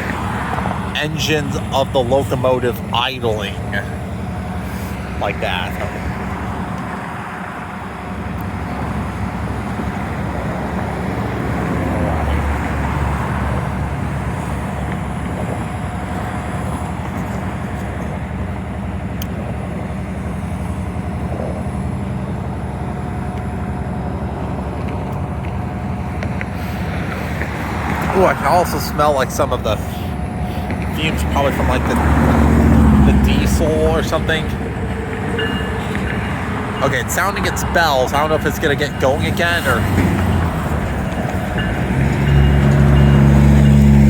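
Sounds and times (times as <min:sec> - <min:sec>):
diesel locomotives idling: 0:00.0 - 0:44.0.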